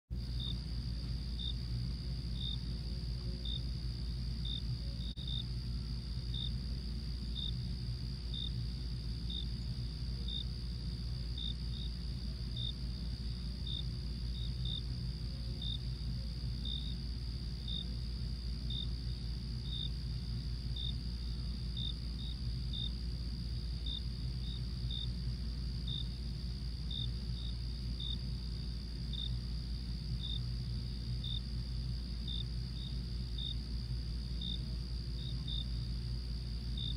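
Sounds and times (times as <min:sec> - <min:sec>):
crickets chirping: 0:00.1 - 0:36.9
high insect drone: 0:00.1 - 0:36.9.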